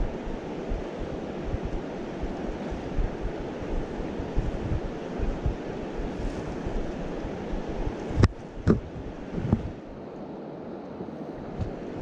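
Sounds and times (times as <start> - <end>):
wind buffeting microphone: 0.0 - 10.0, 11.4 - 12.0
fast-flowing river water: 0.0 - 12.0.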